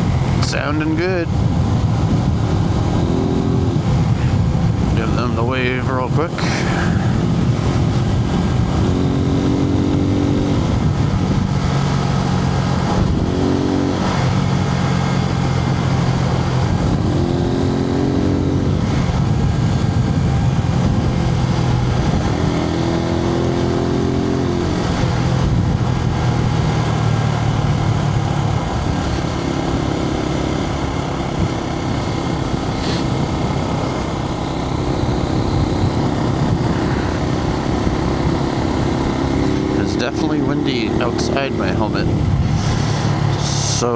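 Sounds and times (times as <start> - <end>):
motorcycle engine running: 0.0 - 43.9
wind noise: 0.0 - 43.9.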